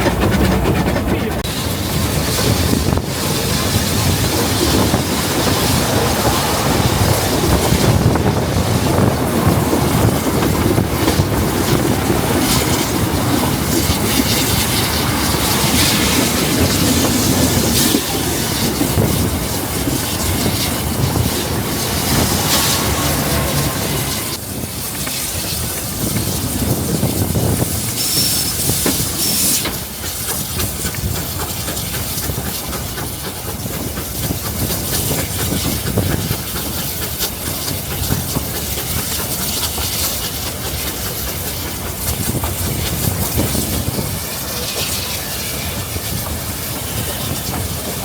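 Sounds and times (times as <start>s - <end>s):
train wheels clattering on rails: 0.0s - 48.0s.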